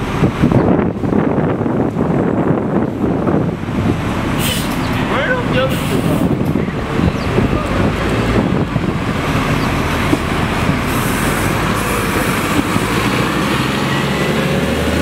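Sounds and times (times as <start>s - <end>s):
bus engine driving past: 0.0s - 15.0s.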